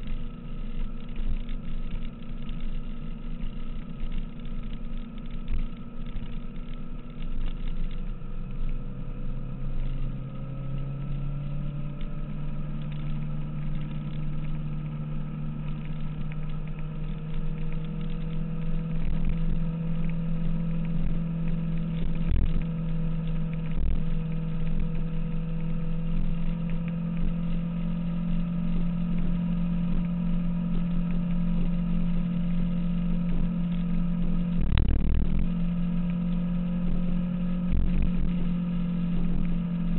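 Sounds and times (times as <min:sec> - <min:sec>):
low rumble: 0:00.0 - 0:39.9
motorcycle engine running: 0:00.0 - 0:39.9.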